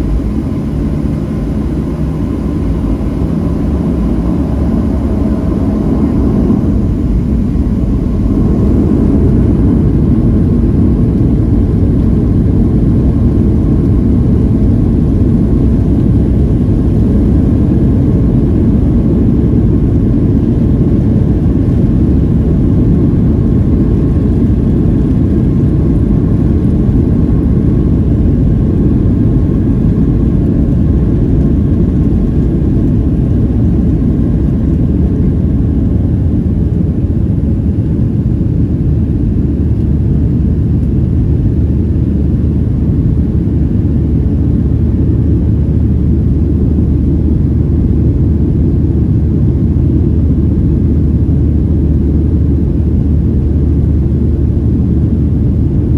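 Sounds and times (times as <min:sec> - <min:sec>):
jet engines rumbling on takeoff: 0:00.0 - 0:55.9.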